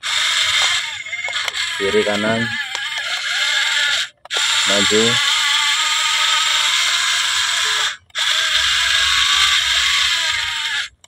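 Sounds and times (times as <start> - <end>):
toy excavator motors whirring: 0.0 - 11.0.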